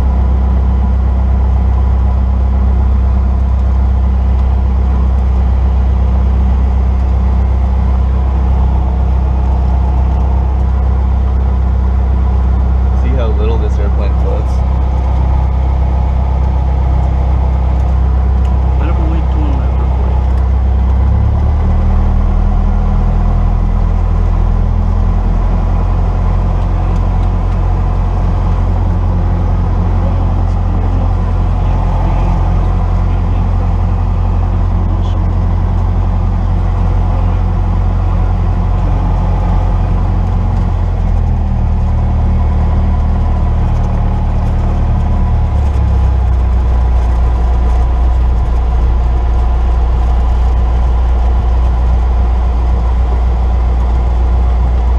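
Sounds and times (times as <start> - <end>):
airplane engine and propeller drone: 0.0 - 54.9.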